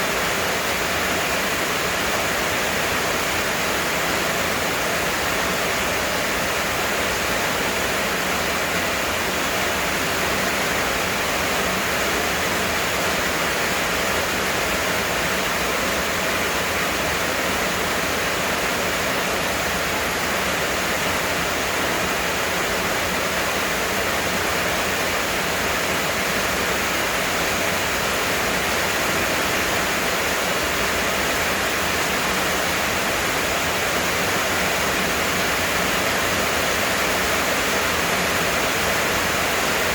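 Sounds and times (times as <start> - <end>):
heavy rain pouring: 0.3 - 39.9.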